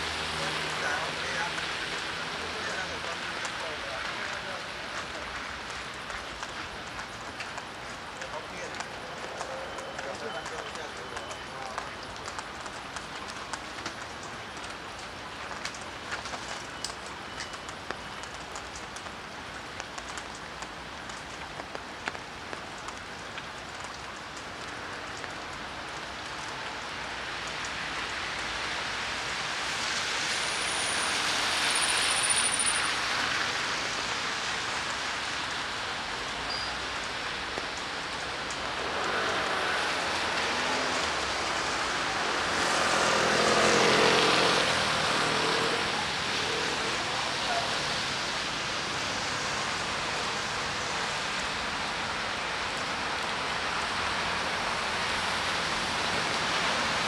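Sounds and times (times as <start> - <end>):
steady rain falling: 0.0 - 57.0
vehicles passing on wet street: 0.0 - 57.0
raindrop ticks: 0.2 - 57.0.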